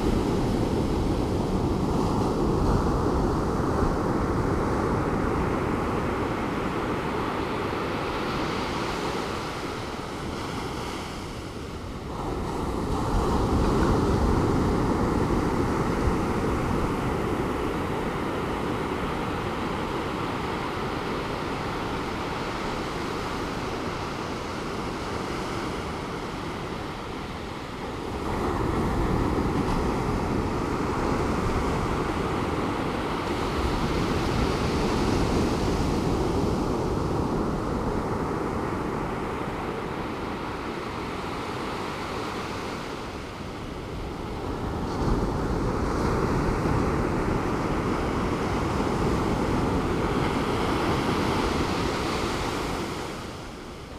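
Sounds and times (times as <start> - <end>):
ocean surf on a beach: 0.0 - 53.9.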